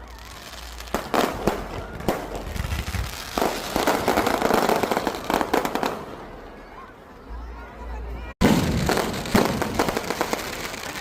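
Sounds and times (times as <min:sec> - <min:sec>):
firecrackers crackling and banging: 0:00.0 - 0:06.3, 0:08.4 - 0:11.0.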